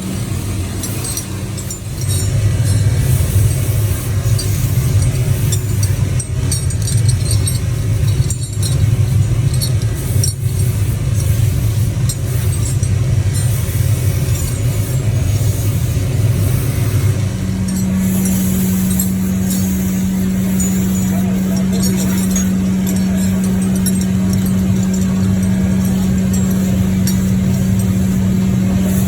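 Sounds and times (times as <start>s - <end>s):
workshop machinery hum: 0.0s - 29.0s.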